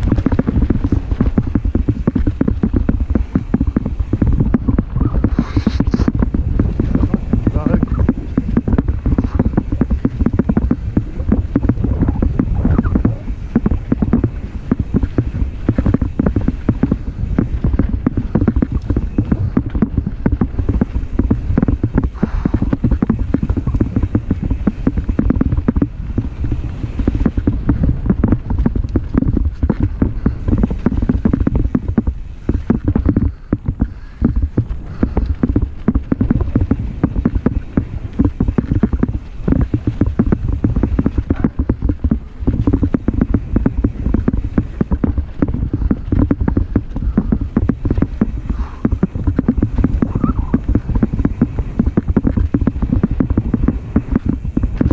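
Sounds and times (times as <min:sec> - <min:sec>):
bike rattling and knocking: 0:00.0 - 0:54.9
tyres rumbling on dirt: 0:00.0 - 0:54.9
wind buffeting microphone: 0:00.0 - 0:54.9.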